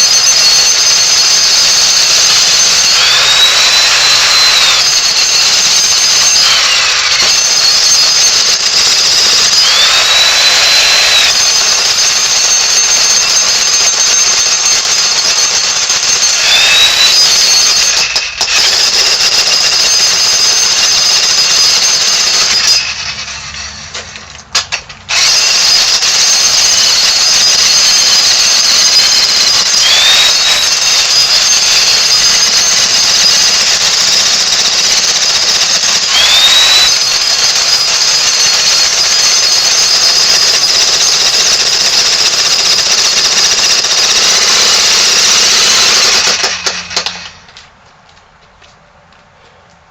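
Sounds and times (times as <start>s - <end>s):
jackhammer hammering: 0.0s - 47.6s.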